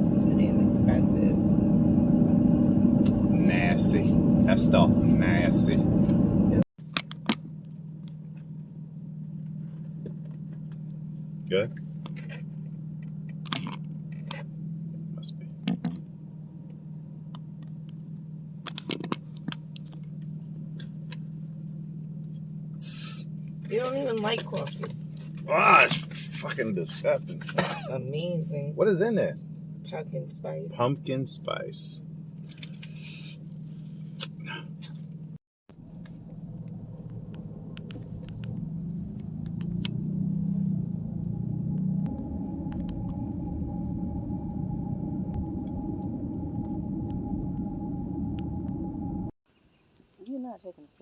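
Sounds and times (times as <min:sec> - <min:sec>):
low hum: 0:00.0 - 0:06.7, 0:07.4 - 0:49.4
vehicle cabin drone: 0:00.0 - 0:49.4.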